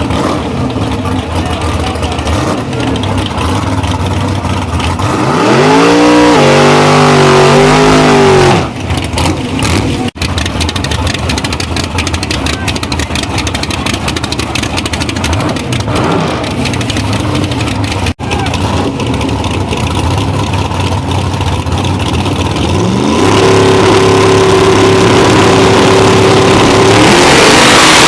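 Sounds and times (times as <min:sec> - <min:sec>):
background engines: 0:00.0 - 0:28.0
drag car engine at full throttle: 0:00.0 - 0:28.0.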